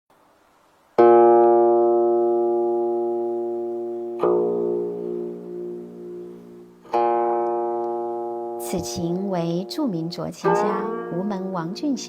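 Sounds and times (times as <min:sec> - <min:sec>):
plucked guqin notes ringing: 0:01.0 - 0:12.0.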